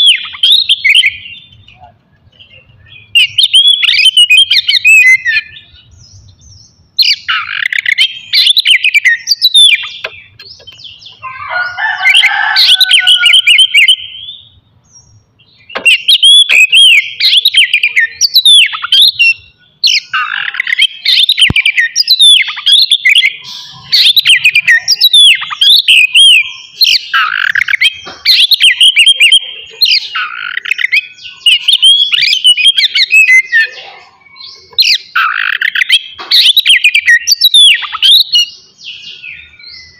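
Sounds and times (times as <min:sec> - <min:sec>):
bird singing whistled notes and chirps: 0:00.0 - 0:39.9.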